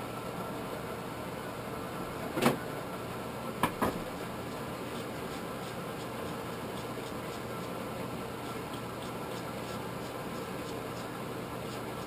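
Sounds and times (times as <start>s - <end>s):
forge air blower humming: 0.0s - 12.0s.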